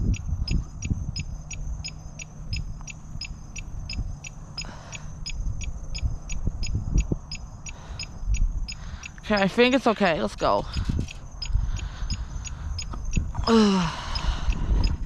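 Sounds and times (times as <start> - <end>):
turn-signal indicator beeping: 0.0 - 13.3
wind and road noise rumble: 0.0 - 15.0.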